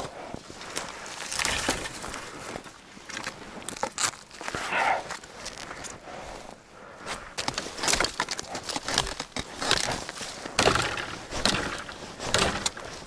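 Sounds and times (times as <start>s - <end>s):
dry wood snapping and crunching: 0.6s - 6.0s, 7.2s - 13.0s.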